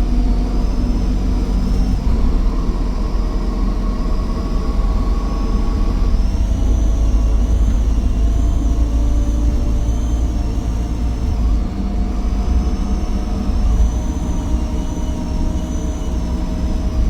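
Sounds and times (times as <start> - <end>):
bus engine drone: 0.0 - 17.0
turbo whine: 0.0 - 17.0.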